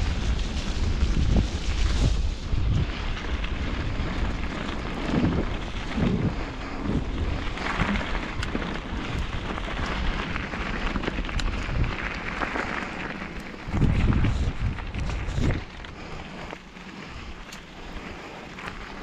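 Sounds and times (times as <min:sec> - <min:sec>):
bike rattling: 0:00.0 - 0:19.0
tyres crunching on dirt and stones: 0:00.0 - 0:19.0
wind rumbling on microphone: 0:00.0 - 0:19.0.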